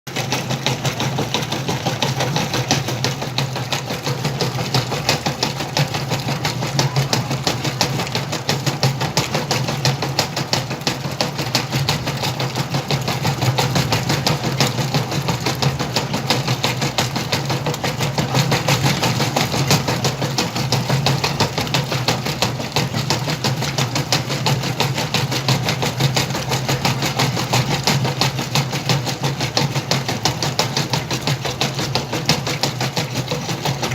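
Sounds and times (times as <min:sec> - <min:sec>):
fast even clatter: 0:00.1 - 0:33.9
washing machine motor hum: 0:00.1 - 0:33.9.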